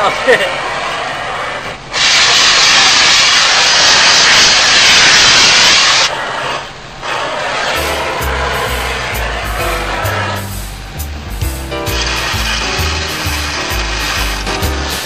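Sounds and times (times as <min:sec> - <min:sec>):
cutting torch hissing: 0:00.0 - 0:15.0.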